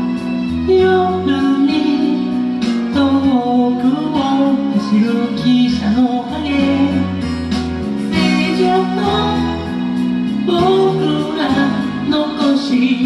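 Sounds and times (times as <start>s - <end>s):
pop song sung over guitar: 0.0s - 13.0s.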